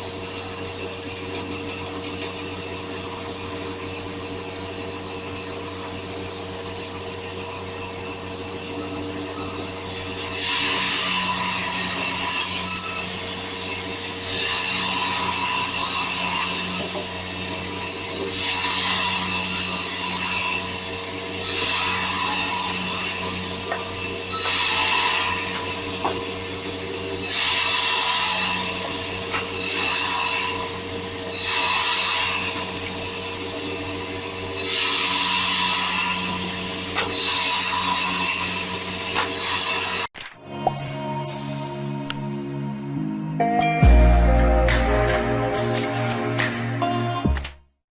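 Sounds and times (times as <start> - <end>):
saw rasping through wood: 0.0 - 40.1
sawmill saw humming: 0.0 - 40.1.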